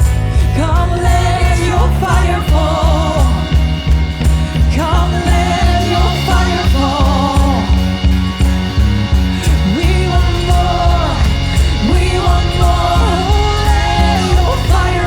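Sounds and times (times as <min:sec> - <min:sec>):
bass line: 0:00.0 - 0:15.0.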